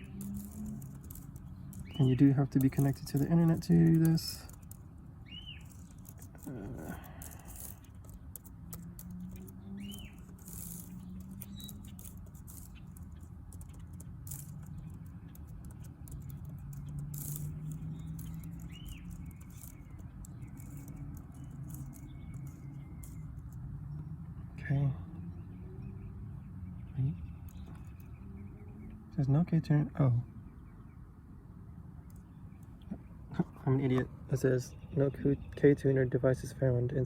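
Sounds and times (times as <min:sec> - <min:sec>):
low steady hum: 0:00.0 - 0:35.5
bird chirping: 0:00.0 - 0:37.0.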